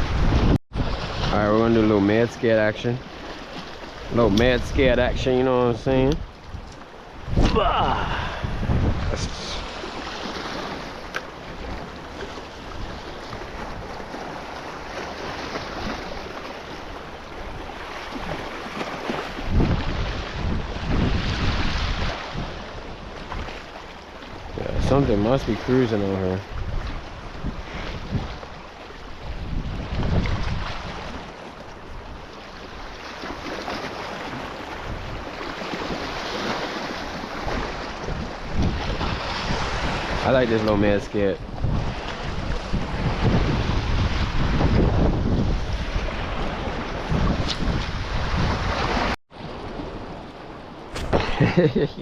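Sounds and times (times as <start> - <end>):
wind on microphone: 0.0 - 2.0, 4.1 - 23.6, 24.3 - 33.5, 34.2 - 52.0
sea surf washing ashore: 0.0 - 52.0.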